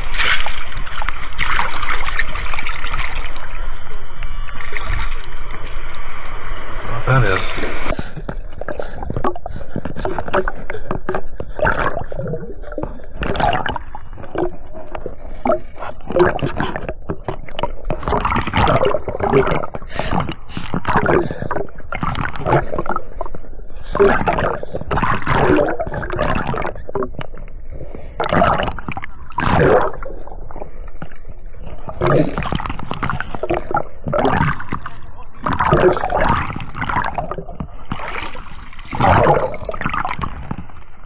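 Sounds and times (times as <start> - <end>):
water sloshing and gurgling: 0.0 - 41.0.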